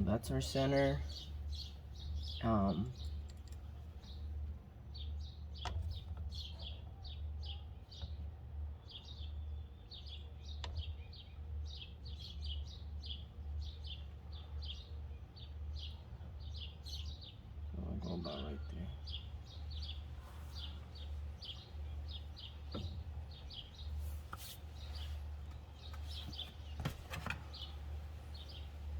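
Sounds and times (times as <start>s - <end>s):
low steady hum: 0.0s - 28.9s
small birds chirping: 0.0s - 28.9s.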